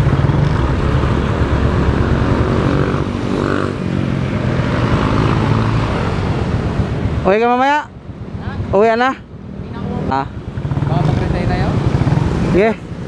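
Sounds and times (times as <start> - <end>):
motorcycle engine running: 0.0 - 7.3, 9.7 - 13.0.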